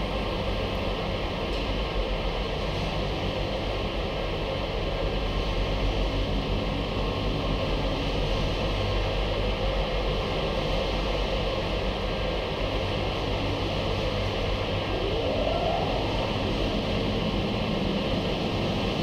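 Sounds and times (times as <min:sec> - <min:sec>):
car wash machinery running: 0:00.0 - 0:19.0.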